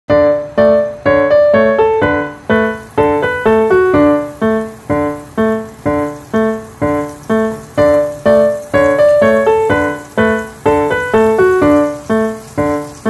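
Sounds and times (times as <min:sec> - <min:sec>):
light keyboard melody: 0:00.1 - 0:13.0.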